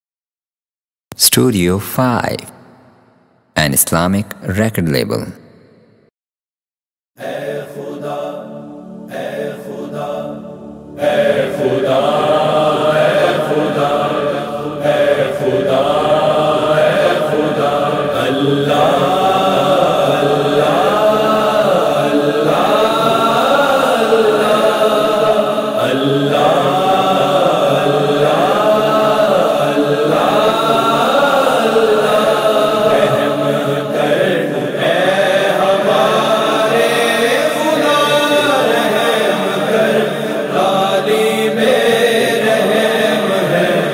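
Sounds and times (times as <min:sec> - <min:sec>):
chorus chanting a wordless melody: 0:07.2 - 0:43.9.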